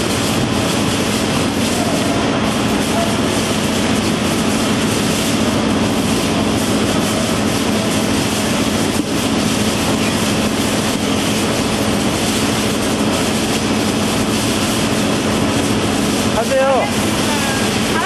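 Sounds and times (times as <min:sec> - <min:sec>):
sorting machine running: 0:00.0 - 0:18.0.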